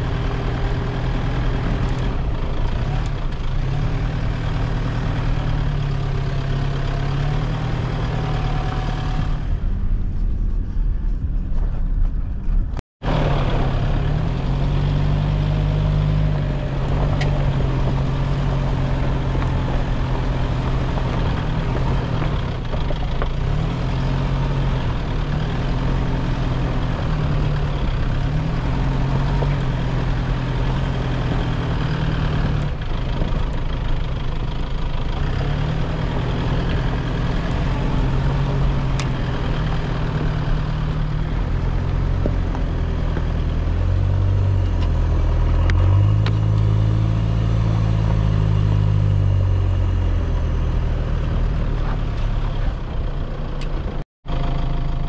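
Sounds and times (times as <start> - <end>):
tyre and road noise: 0.0 - 55.0
vehicle engine revving: 0.0 - 55.0.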